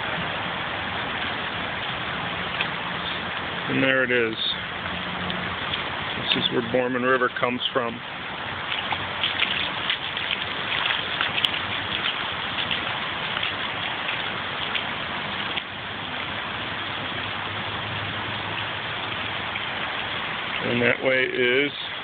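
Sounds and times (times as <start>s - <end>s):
floodwater rushing and splashing: 0.0s - 22.0s.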